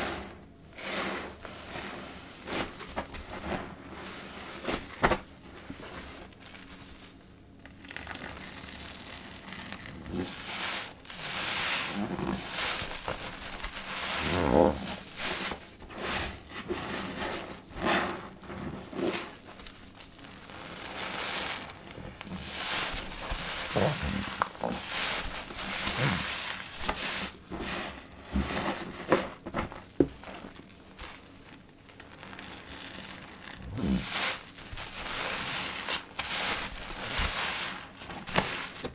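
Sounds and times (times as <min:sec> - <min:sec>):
sponge squelching: 0:00.0 - 0:31.3, 0:32.1 - 0:38.9
foam crackling: 0:00.0 - 0:38.9.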